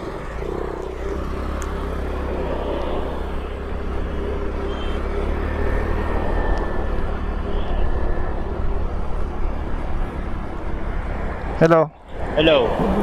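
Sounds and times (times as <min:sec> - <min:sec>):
road noise: 0:00.0 - 0:13.0
scooter engine: 0:00.0 - 0:13.0
wind rumble on microphone: 0:01.6 - 0:13.0.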